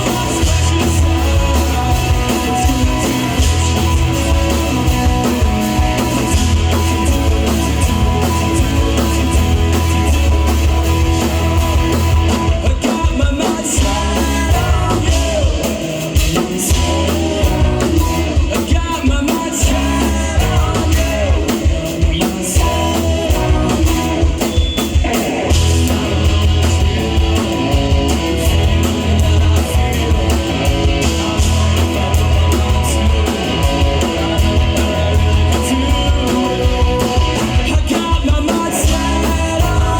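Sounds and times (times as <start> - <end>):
bass guitar: 0.0 - 39.9
drum kit: 0.0 - 39.9
electric guitar: 0.0 - 39.9
person singing: 0.0 - 39.9.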